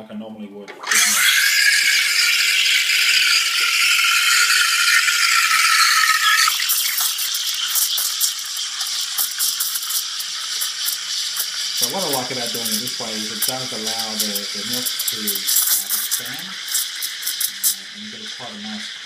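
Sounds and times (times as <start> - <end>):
steam wand hissing in milk: 0.9 - 19.0.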